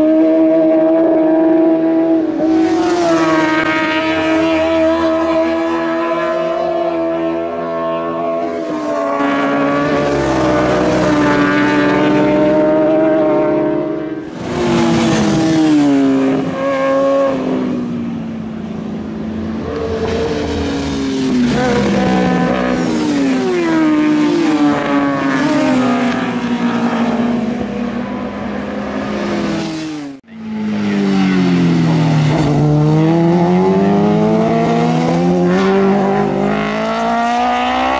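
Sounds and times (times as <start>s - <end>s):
racing motorcycle engines revving: 0.0s - 37.9s.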